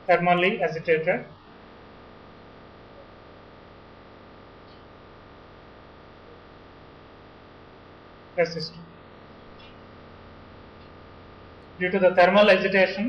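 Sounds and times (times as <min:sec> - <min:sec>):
background hiss: 0:00.0 - 0:13.0
low electrical hum: 0:00.0 - 0:13.0.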